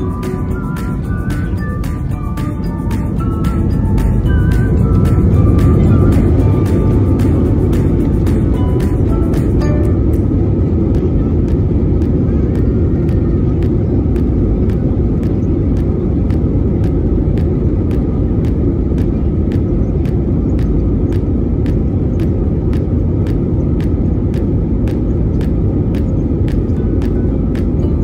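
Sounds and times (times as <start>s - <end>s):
faint regular ticking: 0.0s - 28.0s
jet engine cabin rumble: 0.0s - 28.0s.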